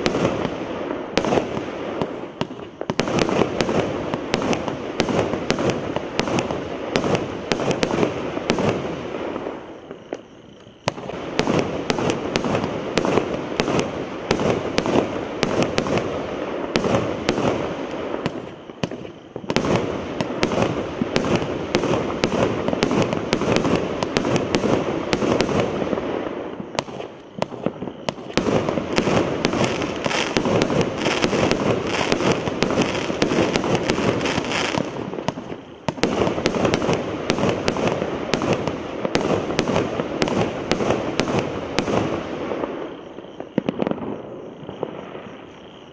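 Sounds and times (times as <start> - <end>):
firework cake bangs and crackling: 0.0 - 45.9.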